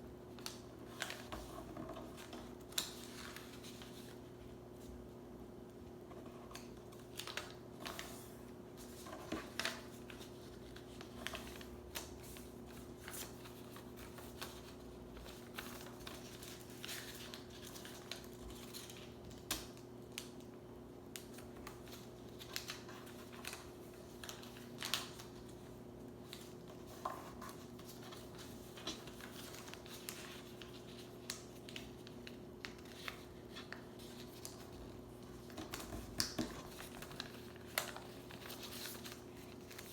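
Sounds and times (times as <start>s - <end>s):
paper being folded: 0.3s - 4.9s, 6.2s - 20.5s, 21.1s - 39.9s.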